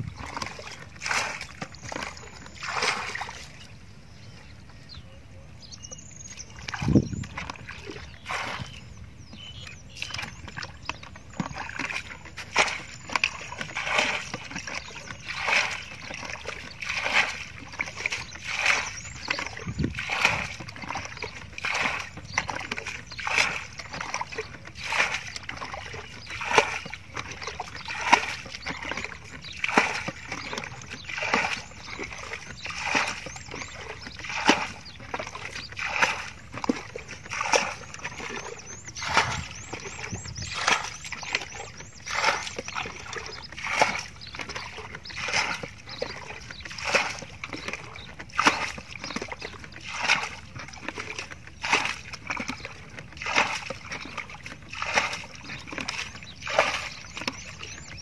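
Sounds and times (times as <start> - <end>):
bucket scooping water: 0.0 - 4.6, 6.0 - 58.0.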